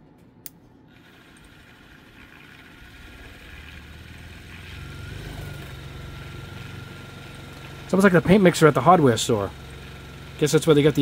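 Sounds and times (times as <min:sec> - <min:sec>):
paint mixer motor whirring: 0:00.9 - 0:11.0
deeper motor hum: 0:01.1 - 0:11.0.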